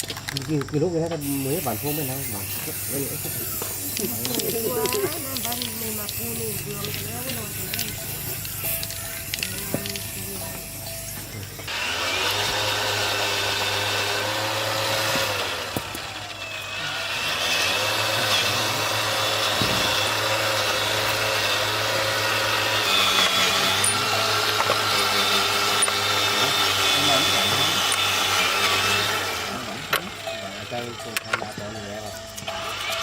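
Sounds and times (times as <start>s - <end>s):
electric power tool running: 0.0s - 33.0s.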